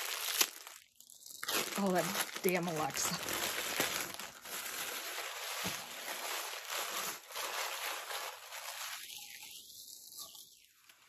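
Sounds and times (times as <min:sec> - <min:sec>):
wrapping paper rustling and tearing: 0:00.0 - 0:11.0.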